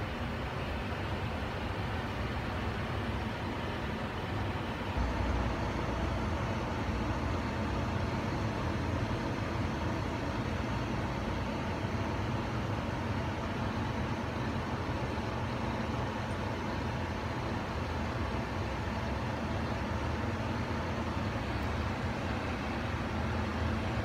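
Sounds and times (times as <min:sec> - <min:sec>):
low rumbling machine hum: 0:00.0 - 0:24.0.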